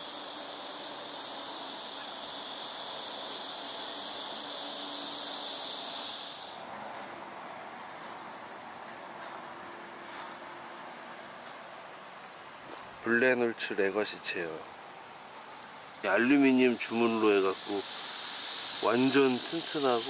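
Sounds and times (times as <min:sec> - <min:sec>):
crickets and insects chirring: 0:00.0 - 0:20.0.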